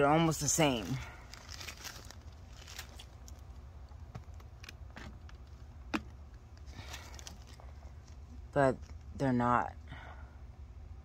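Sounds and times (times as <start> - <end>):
steady low hum: 0.0 - 11.0
plastic baggies crinkling: 0.2 - 9.2.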